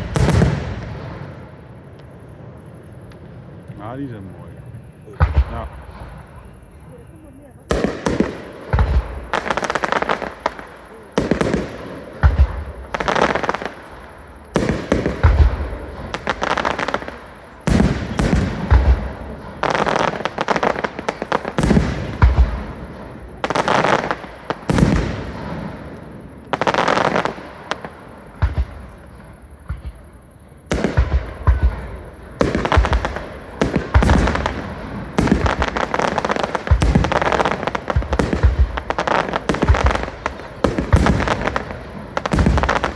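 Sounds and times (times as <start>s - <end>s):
fireworks bursting with crackle: 0.0s - 42.9s.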